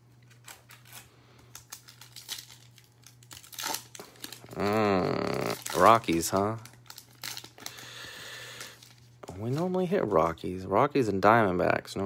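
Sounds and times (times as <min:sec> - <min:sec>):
foil wrapper crinkling and tearing: 0:00.1 - 0:10.4.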